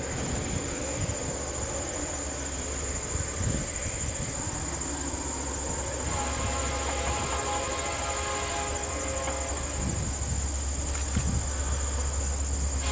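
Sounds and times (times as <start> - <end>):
crickets chirping: 0.0 - 12.9
distant diesel locomotives rumbling: 0.0 - 12.9.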